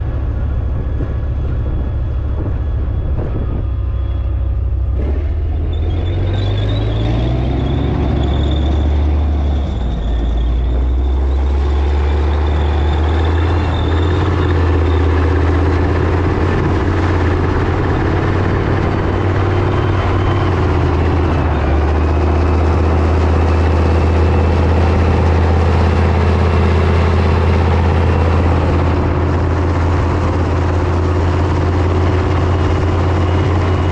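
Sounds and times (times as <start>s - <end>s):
tank diesel engine rumbling: 0.0s - 33.9s.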